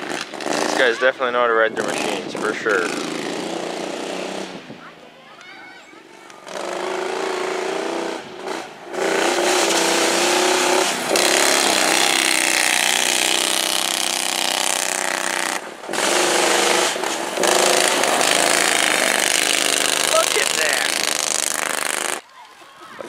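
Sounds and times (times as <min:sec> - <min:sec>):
lawn mower engines revving hard: 0:00.0 - 0:04.8, 0:06.4 - 0:22.2.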